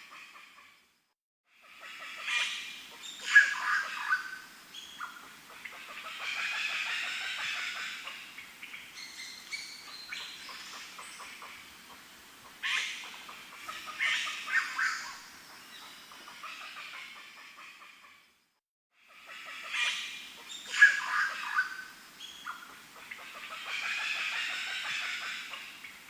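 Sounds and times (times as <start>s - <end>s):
birds calling: 1.8s - 18.0s, 19.2s - 26.0s.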